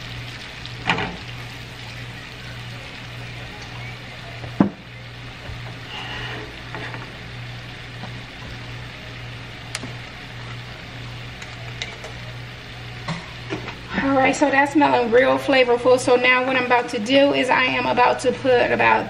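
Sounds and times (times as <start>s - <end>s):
garlic sizzling in butter: 0.0s - 19.0s.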